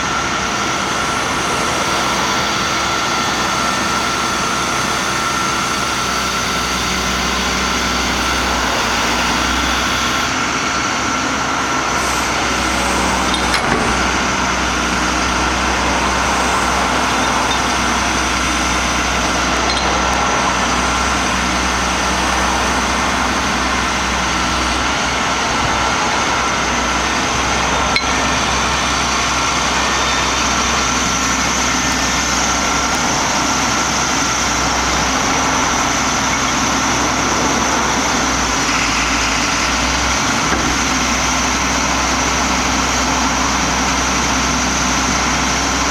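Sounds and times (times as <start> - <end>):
high whine: 0.0 - 43.5
diesel engine running: 0.0 - 45.9.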